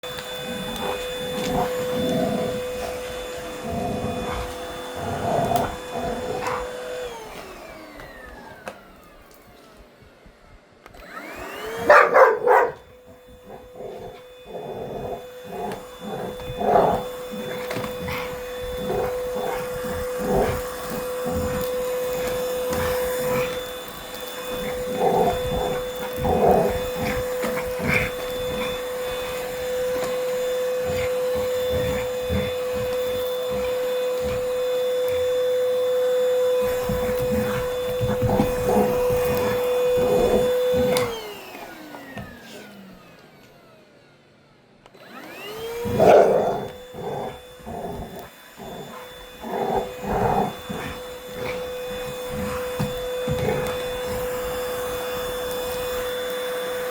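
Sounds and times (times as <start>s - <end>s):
vacuum cleaner motor whine: 0.0s - 56.9s.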